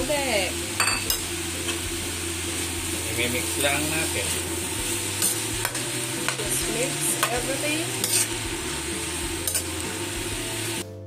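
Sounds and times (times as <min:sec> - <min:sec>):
food sizzling in a pan: 0:00.0 - 0:10.8
spatula scraping a sizzling pan: 0:00.0 - 0:10.8.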